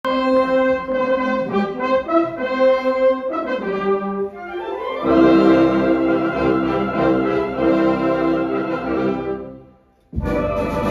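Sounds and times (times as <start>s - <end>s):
wind band brass fanfare: 0.0s - 10.9s.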